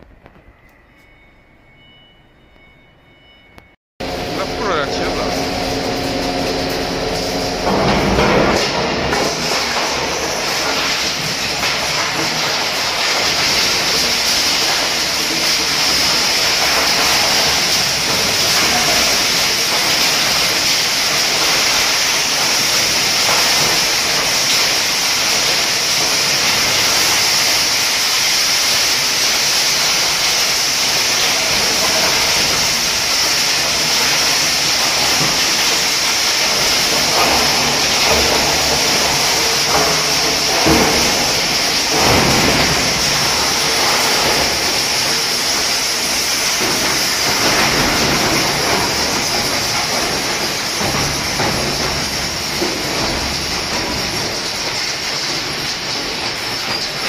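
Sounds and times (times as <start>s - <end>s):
hammer mill crushing metal: 4.0s - 57.0s
heavy metal crashes: 4.0s - 57.0s.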